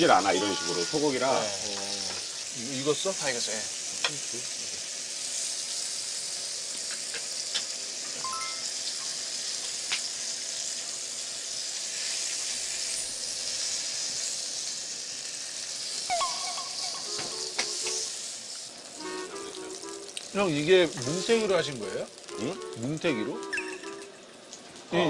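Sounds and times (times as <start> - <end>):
meat sizzling in a pan: 0.0 - 25.0.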